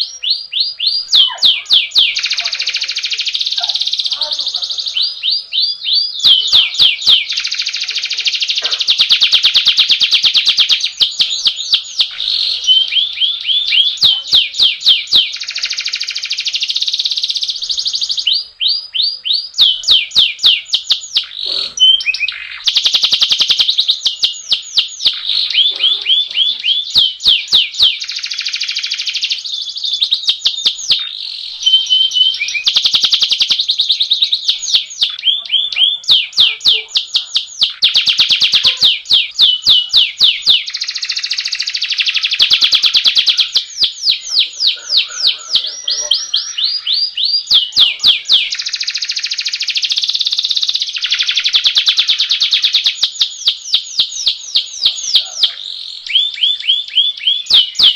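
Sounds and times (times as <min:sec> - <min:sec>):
canary singing: 0:00.0 - 0:57.9.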